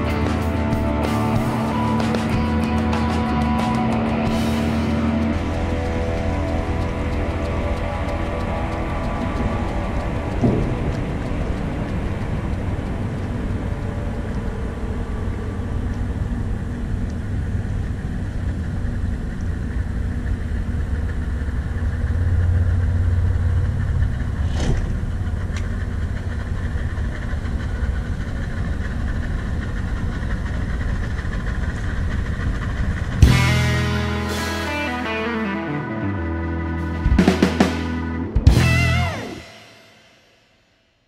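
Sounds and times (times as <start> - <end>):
outboard motor idling: 0.0 - 34.7.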